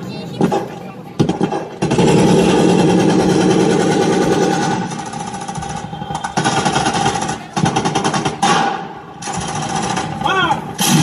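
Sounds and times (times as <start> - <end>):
rapid gunfire over loudspeakers: 0.4 - 11.0.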